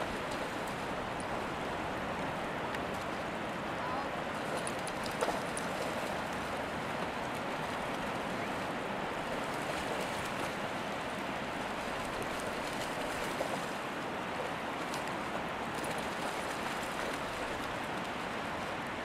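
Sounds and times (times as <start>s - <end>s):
sea surf rushing: 0.0s - 19.0s.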